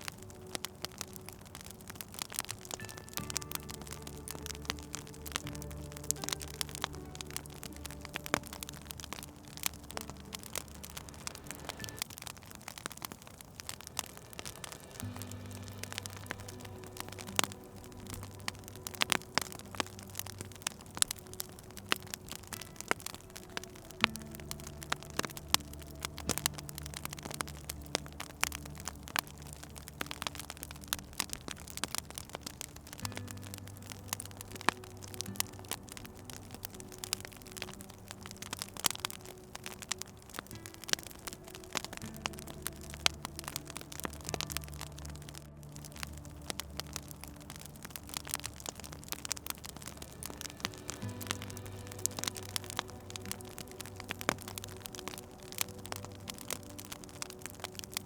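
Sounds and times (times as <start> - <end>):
low steady hum: 0.0 - 58.0
soft low held musical tones: 0.0 - 58.0
wood fire crackling and popping: 0.0 - 58.0.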